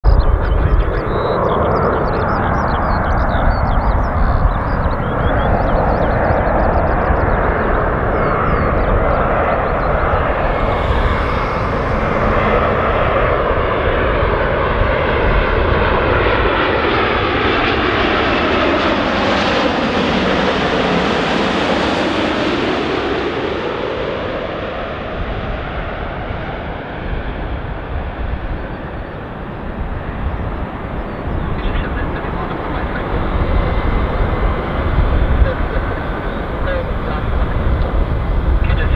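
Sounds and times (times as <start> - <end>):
jet airliner passing overhead: 0.1 - 38.9.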